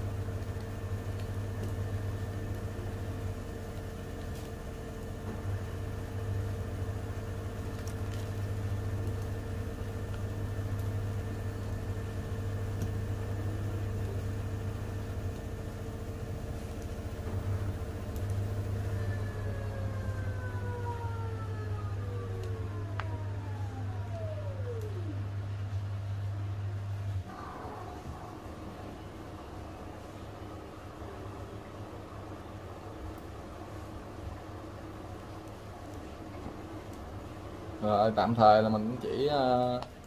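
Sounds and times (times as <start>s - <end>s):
washing machine spinning: 0.0s - 40.0s.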